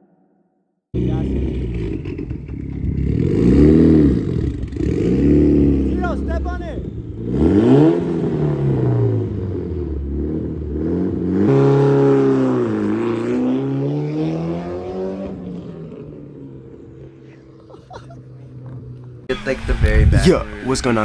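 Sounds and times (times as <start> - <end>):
car engine accelerating hard: 1.0 - 16.4, 18.7 - 21.0.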